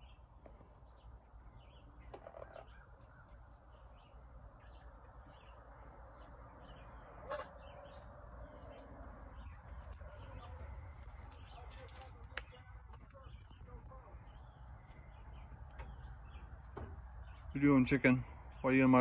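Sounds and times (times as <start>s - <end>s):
small birds chirping: 0.0s - 19.0s
low bird call: 1.5s - 17.6s.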